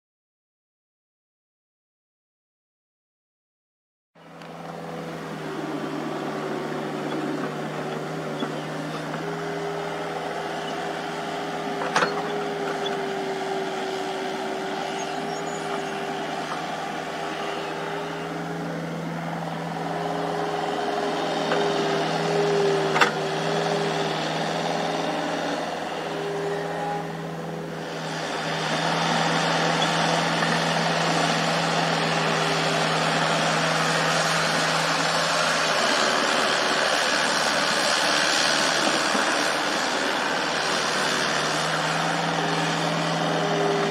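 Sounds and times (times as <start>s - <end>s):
excavator diesel engine running: 4.2s - 43.9s
hydraulics humming: 4.2s - 43.9s.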